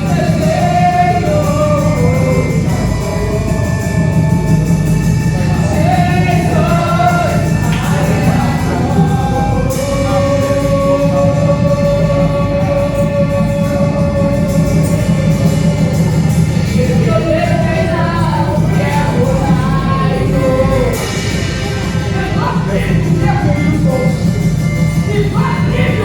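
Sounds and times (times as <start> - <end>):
band with heavy bass: 0.0 - 26.0
church praise singing: 0.0 - 26.0.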